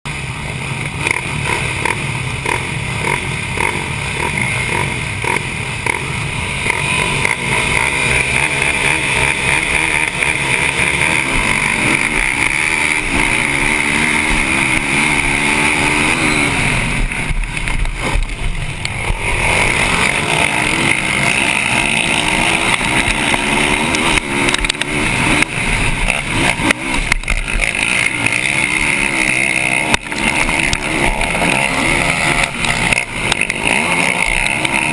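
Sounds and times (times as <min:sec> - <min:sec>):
other racing engines: 0:00.1 - 0:34.9
quad engine racing: 0:00.1 - 0:34.9.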